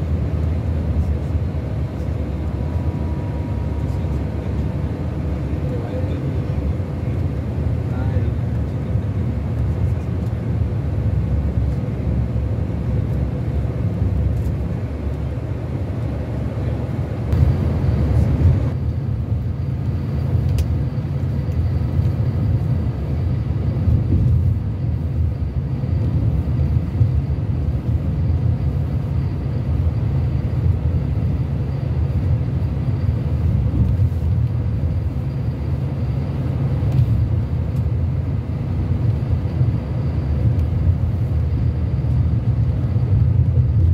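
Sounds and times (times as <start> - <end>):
coach diesel engine droning: 0.0 - 43.9.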